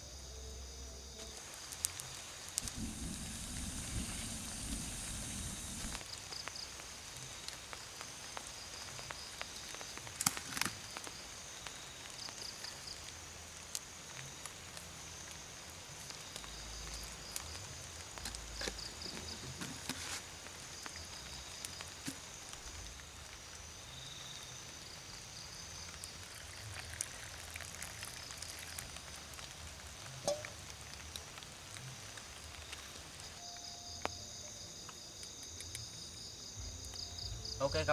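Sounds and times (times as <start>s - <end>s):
insects trilling: 0.0s - 37.9s
light crackling and ticking: 1.2s - 37.9s.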